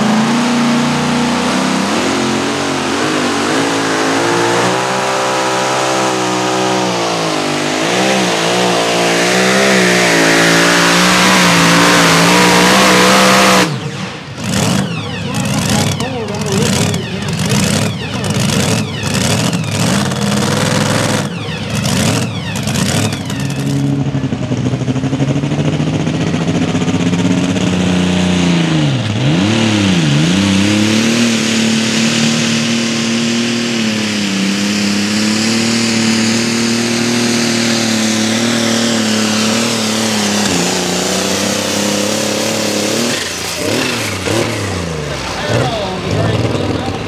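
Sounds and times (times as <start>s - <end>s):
tractor engine at high revs: 0.0s - 47.0s
truck engine revving unevenly: 0.0s - 47.0s.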